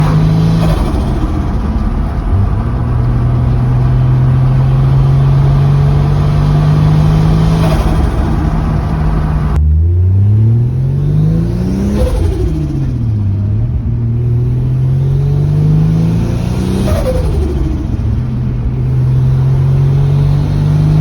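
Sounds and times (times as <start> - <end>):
turbocharged car engine revving: 0.0 - 21.0.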